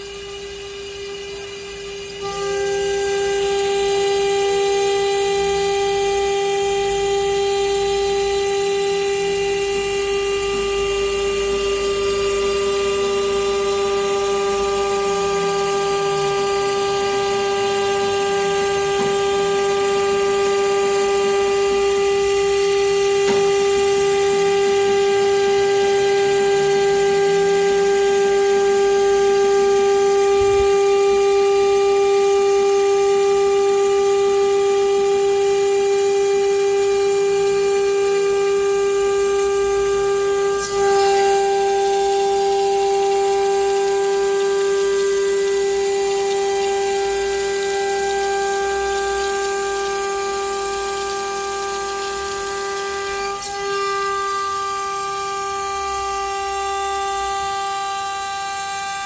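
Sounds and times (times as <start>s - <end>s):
machine spindle whine: 0.0s - 59.0s.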